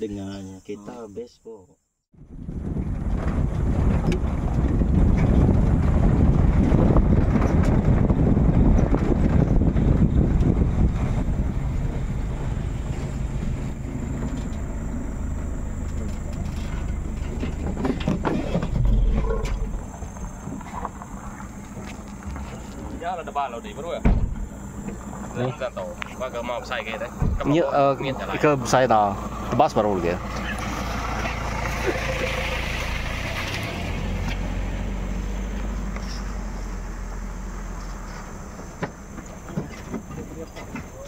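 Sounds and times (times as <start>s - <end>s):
vehicle engine rumbling: 2.1s - 41.0s.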